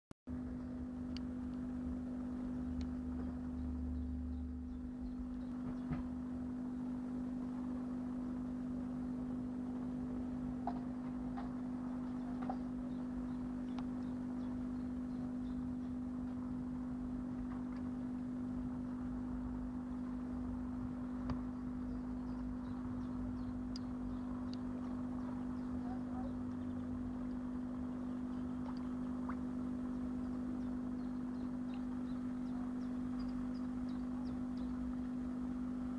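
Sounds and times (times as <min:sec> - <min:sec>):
machine hum: 0:00.3 - 0:35.9.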